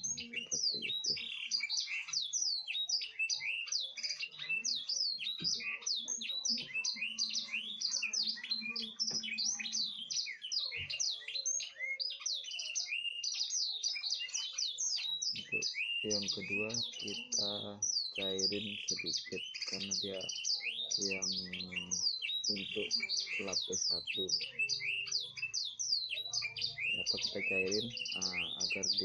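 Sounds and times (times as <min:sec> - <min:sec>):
flock of birds chattering: 0:00.0 - 0:29.0.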